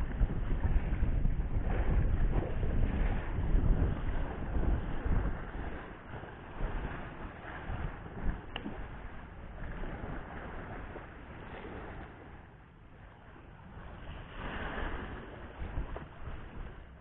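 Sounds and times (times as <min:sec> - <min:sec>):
waves washing against a wall: 0:00.0 - 0:17.0
wind buffeting microphone: 0:00.0 - 0:17.0.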